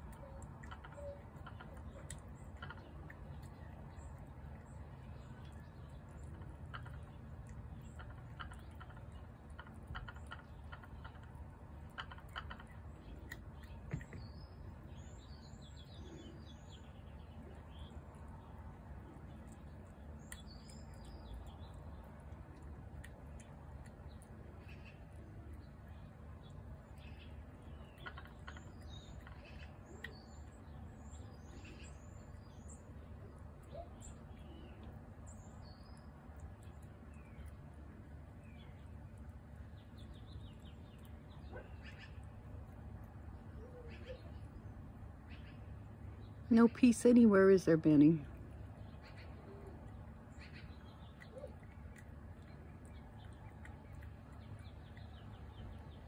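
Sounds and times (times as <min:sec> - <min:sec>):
small bird chirping: 0:00.0 - 0:42.5, 0:48.6 - 0:56.0
low steady rumble: 0:00.0 - 0:56.0.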